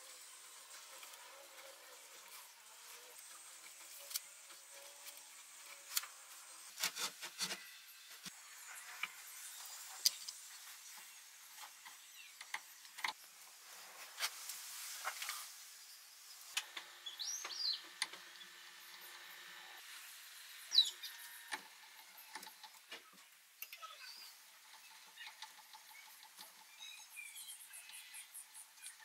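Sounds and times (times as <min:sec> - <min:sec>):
low steady hiss: 0:00.0 - 0:29.0.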